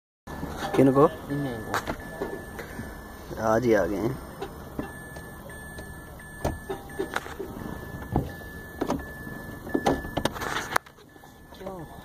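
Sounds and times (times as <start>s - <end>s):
low hum inside car: 0.3s - 12.0s.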